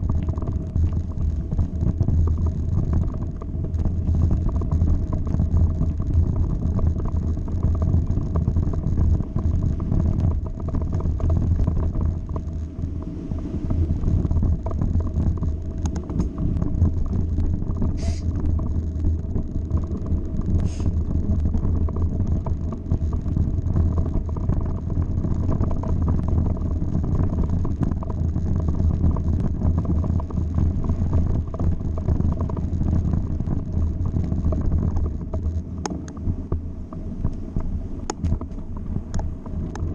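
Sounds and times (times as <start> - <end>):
bike tyres rumbling on gravel: 0.0 - 39.9.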